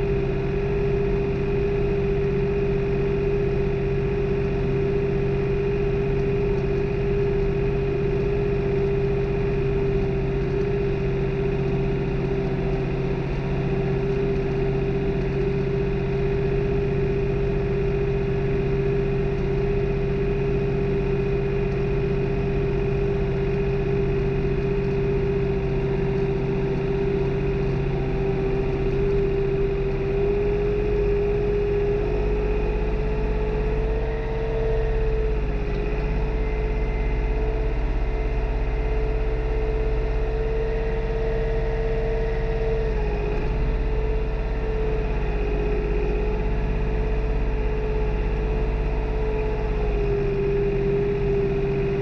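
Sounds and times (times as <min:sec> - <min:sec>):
tractor diesel engine droning: 0:00.0 - 0:52.0.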